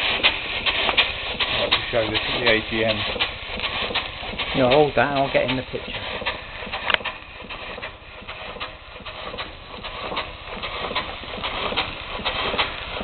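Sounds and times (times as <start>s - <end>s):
faint steam hiss: 0.0s - 13.0s
steam engine exhaust chuffing: 0.0s - 13.0s.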